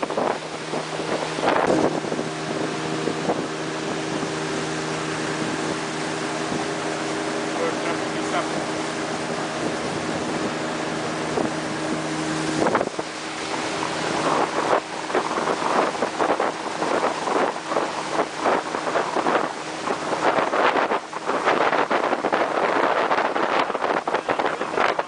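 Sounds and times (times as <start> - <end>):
motorboat engine running: 0.0 - 25.0
water rushing past hull: 0.0 - 25.0
wind buffeting microphone: 0.0 - 25.0.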